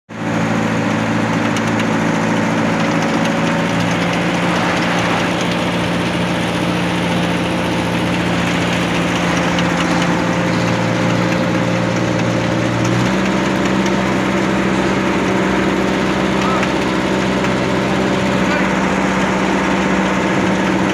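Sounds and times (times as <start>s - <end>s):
paver engine running: 0.1s - 20.9s.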